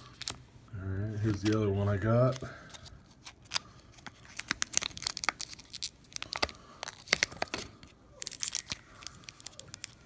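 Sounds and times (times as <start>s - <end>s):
plastic bag crinkling: 1.2s - 10.0s.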